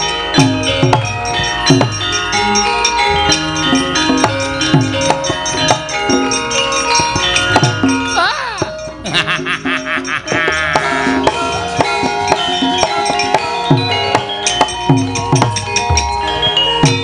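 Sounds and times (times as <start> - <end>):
metallophones and gongs: 0.0 - 17.0.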